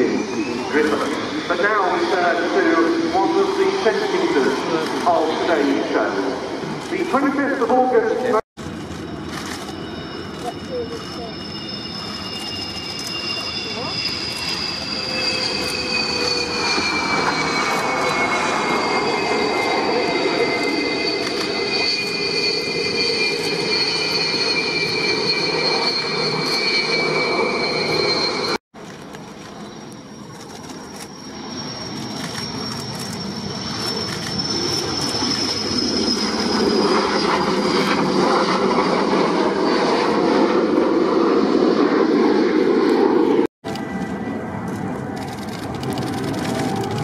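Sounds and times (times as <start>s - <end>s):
high turbine whines: 0.0s - 47.0s
jet engines on runway: 0.0s - 47.0s.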